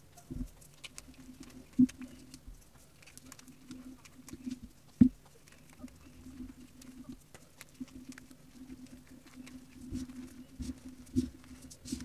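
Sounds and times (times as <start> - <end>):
chalk crumbling in the hand: 0.0 - 12.0.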